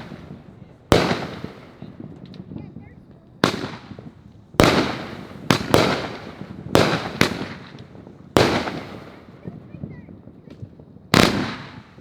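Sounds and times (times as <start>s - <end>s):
firework mortar bangs: 0.0s - 12.0s.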